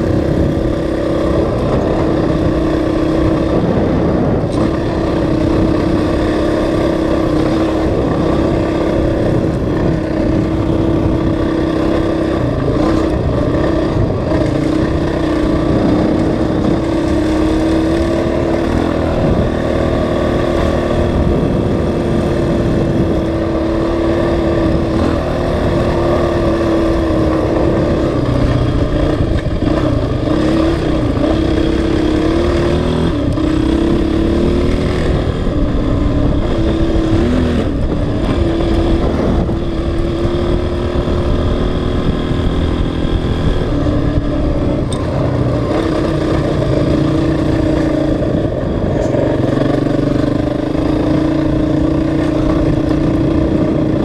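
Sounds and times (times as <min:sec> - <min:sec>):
dirt bike engine cruising: 0:00.0 - 0:54.0.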